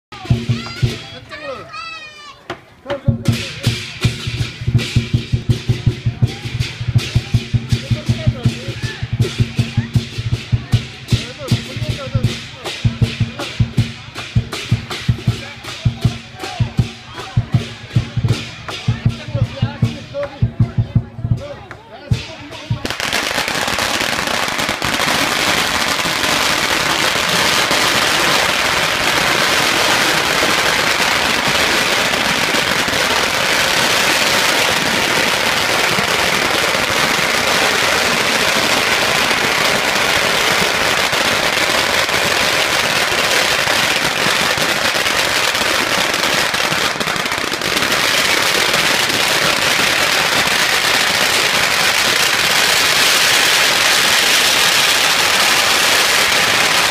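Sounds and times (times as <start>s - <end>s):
firecrackers crackling: 0.0s - 56.9s.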